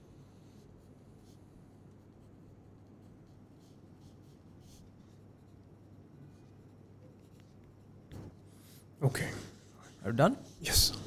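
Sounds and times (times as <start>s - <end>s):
pencil scratching on paper: 0.0s - 10.9s.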